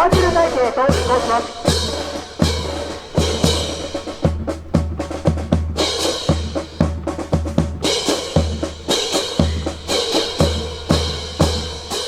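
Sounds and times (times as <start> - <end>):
deep bass drum beats: 0.0 - 12.0.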